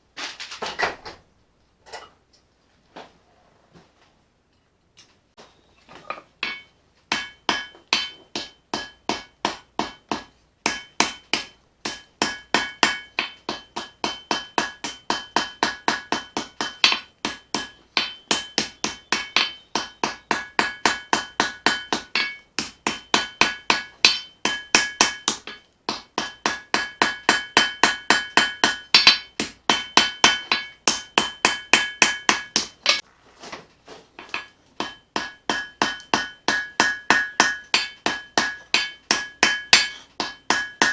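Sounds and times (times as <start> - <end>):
hammer forging steel on anvil: 6.4 - 33.0, 34.2 - 40.9.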